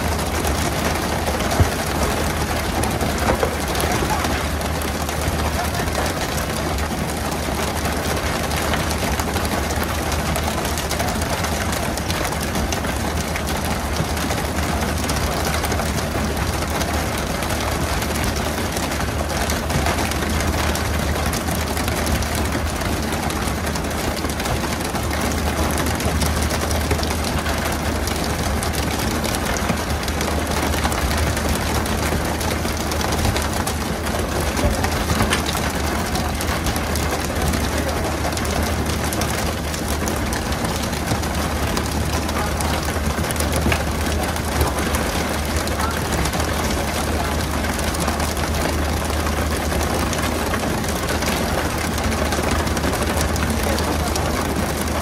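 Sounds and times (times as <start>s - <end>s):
boat engine humming: 0.0s - 55.0s
water spraying and splashing: 0.0s - 55.0s.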